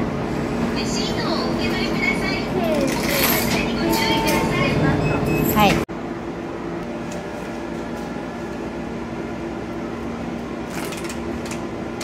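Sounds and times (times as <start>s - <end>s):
appliance hum with steady tones: 0.0s - 12.0s.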